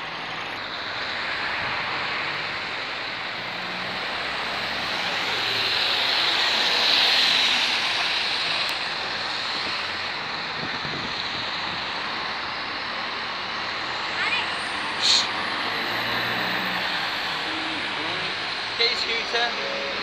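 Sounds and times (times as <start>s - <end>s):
bus driving past on wet road: 0.0s - 20.0s
other traffic passing: 0.0s - 20.0s.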